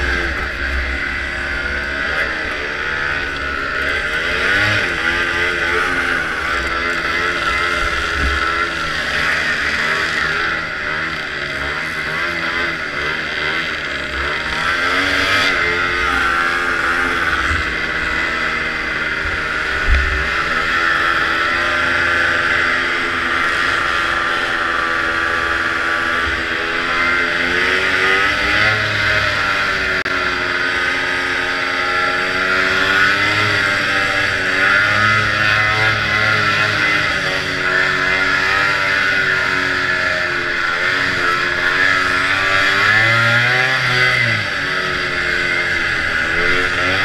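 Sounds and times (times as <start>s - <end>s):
snowmobile engine running hard: 0.0s - 47.0s.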